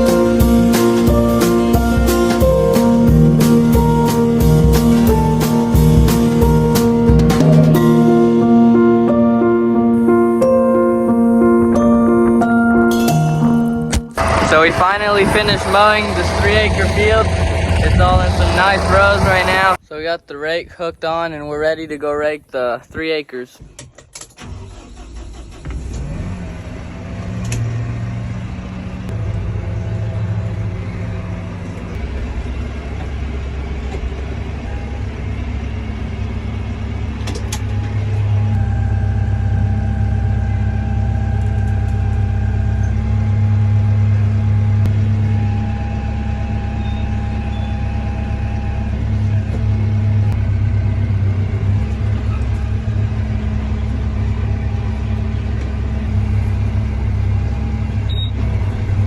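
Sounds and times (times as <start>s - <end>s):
tractor engine running: 0.0s - 19.9s, 23.6s - 59.0s.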